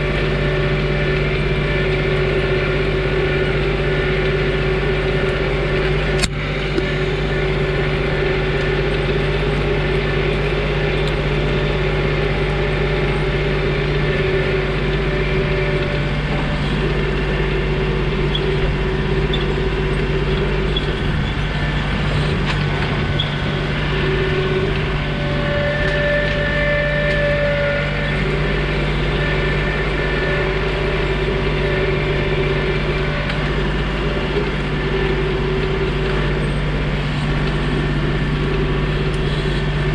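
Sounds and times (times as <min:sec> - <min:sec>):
higher engine tone: 0:00.0 - 0:39.9
tractor diesel engine running: 0:00.0 - 0:39.9.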